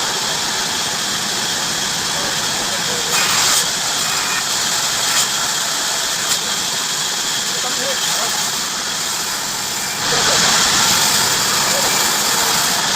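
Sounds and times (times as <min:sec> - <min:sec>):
bandsaw cutting wood: 0:02.3 - 0:12.9.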